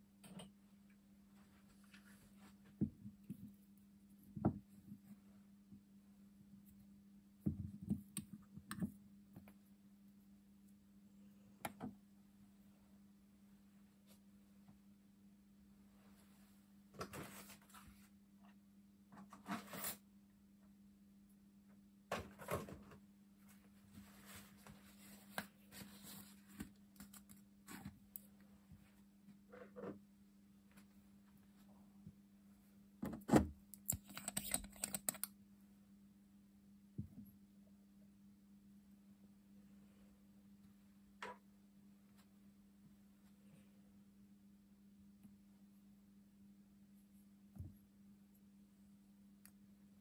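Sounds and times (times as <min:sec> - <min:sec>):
faint low hum: 0:00.0 - 0:50.0.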